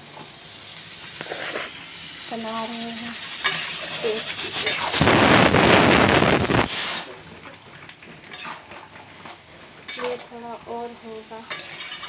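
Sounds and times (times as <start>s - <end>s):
chicken frying in a wok: 0.0s - 12.0s.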